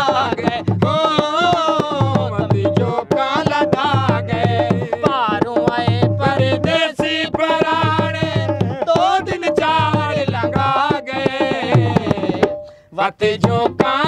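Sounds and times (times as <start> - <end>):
dholak drum beating: 0.0 - 14.0
folk song with drum and melody: 0.0 - 14.0.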